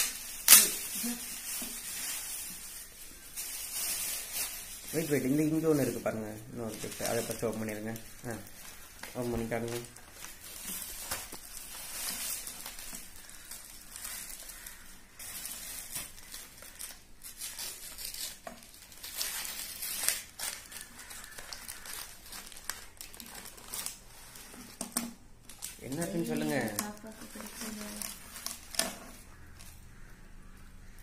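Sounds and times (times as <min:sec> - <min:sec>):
paper bag crinkling and tearing: 0:00.0 - 0:24.8, 0:25.4 - 0:29.8.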